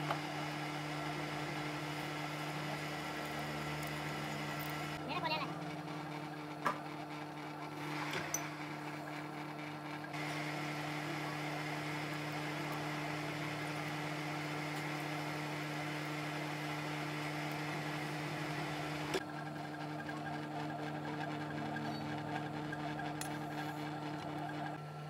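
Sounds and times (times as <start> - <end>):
metal lathe humming: 0.0 - 25.0.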